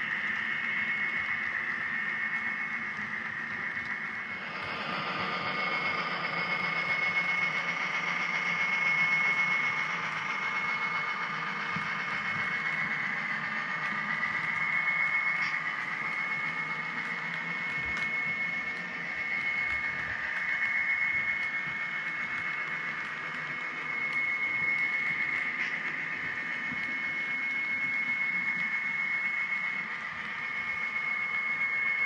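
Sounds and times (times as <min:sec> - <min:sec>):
constant high tone: 0:00.0 - 0:32.0
model train wheels and motor whir: 0:00.0 - 0:32.0.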